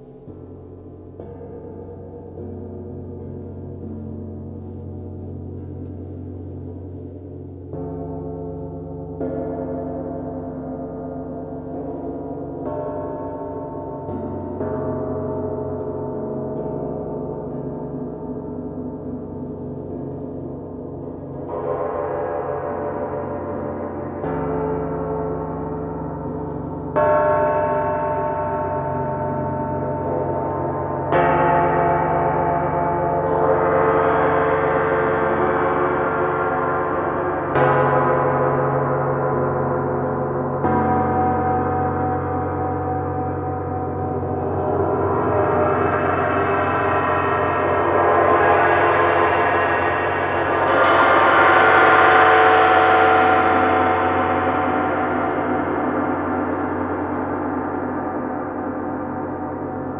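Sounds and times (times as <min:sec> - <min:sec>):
gongs struck with mallets: 0:11.4 - 0:59.9.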